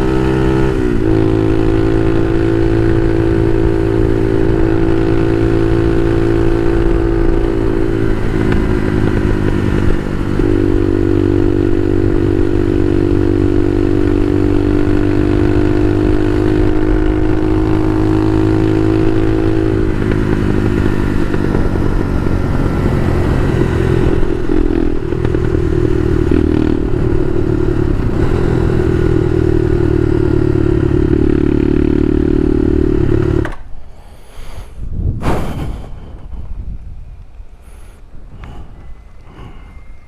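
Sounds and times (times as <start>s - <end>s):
motorcycle engine revving: 0.0s - 33.7s.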